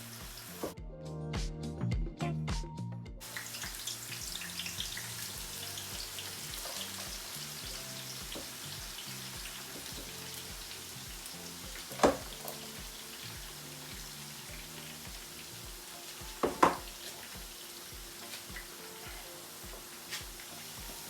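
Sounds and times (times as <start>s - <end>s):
onions sizzling in oil: 0.0s - 0.8s, 3.2s - 21.0s
background music with bass line: 0.0s - 21.0s.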